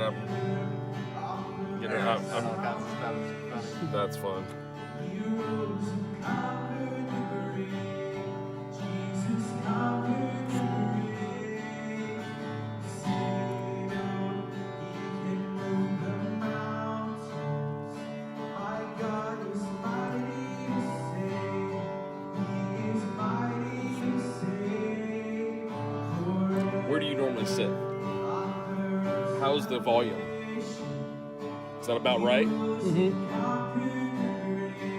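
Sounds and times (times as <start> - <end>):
person singing: 0.0 - 4.3, 5.0 - 17.4, 18.5 - 31.1, 31.8 - 34.9
acoustic guitar strumming: 0.0 - 34.9.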